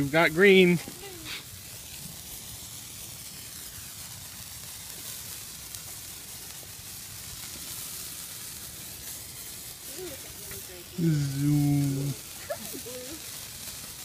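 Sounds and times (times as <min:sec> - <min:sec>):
faint crackles: 0:00.0 - 0:14.0
sparklers fizzing: 0:00.0 - 0:14.0.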